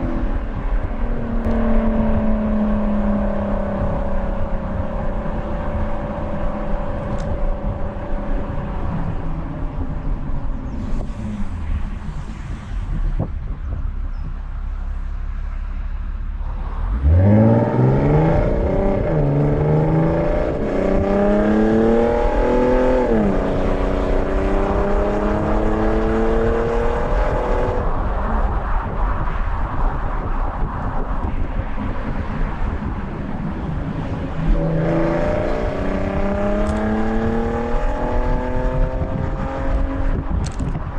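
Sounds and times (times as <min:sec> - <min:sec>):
car engine accelerating: 0:00.0 - 0:30.0, 0:31.8 - 0:40.9.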